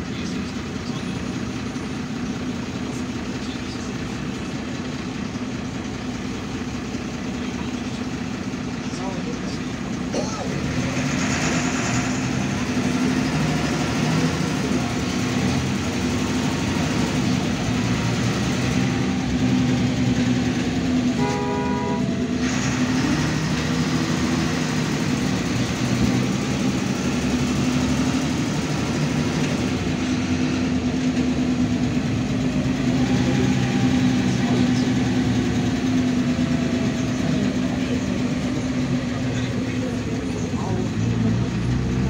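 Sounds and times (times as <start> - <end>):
bus diesel engine drone: 0.0 - 42.0
road noise: 0.0 - 42.0.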